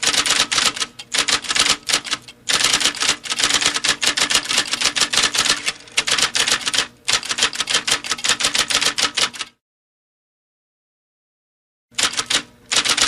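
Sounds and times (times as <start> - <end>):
typewriter keys clacking: 0.0 - 9.5, 12.0 - 13.0.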